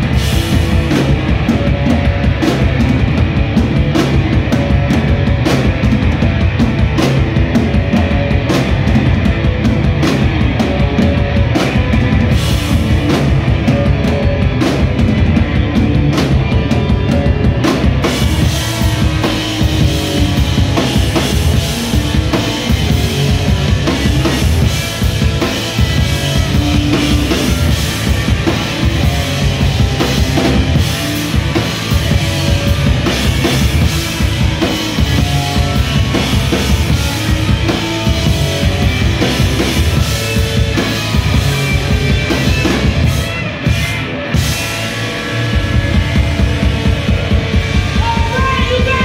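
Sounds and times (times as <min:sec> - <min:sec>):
drum kit: 0:00.0 - 0:49.0
electric guitars: 0:00.0 - 0:49.0.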